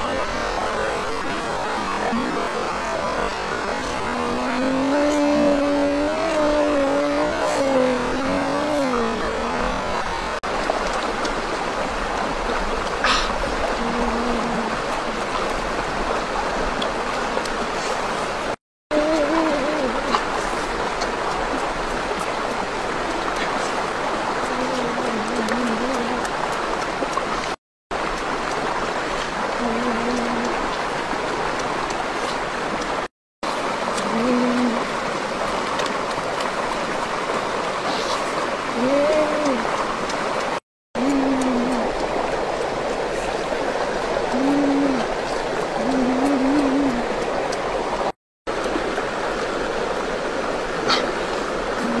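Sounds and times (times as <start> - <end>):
forest stream rushing: 0.0 - 52.0.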